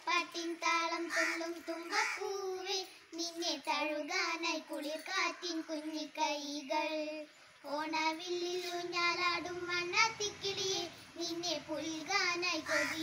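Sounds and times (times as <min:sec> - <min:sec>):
girls singing unaccompanied: 0:00.0 - 0:13.0.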